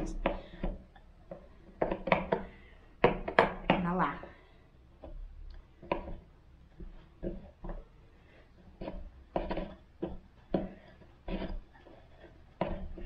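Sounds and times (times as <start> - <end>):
wooden leg clicking and knocking: 0.0 - 4.4, 5.0 - 8.0, 8.6 - 13.0.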